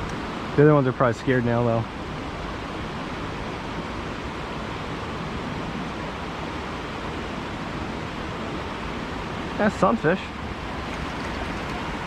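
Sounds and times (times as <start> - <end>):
creek water rushing: 1.8 - 12.0.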